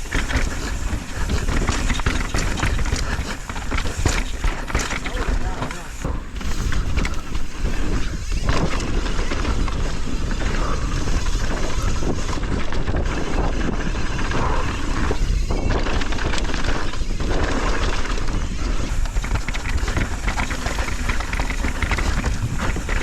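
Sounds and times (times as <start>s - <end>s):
bike rattling over rough ground: 0.0s - 23.0s
bike tyre noise: 0.0s - 23.0s
wind rush on microphone: 0.0s - 23.0s.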